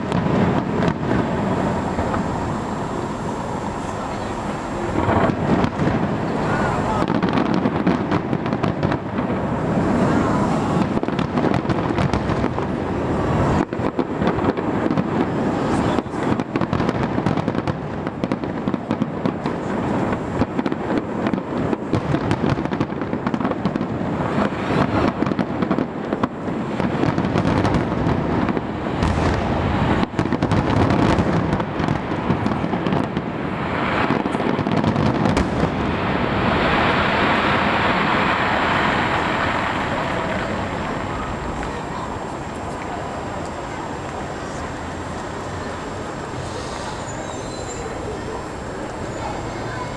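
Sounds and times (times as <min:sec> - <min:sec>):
fireworks bursting: 0:00.0 - 0:49.9.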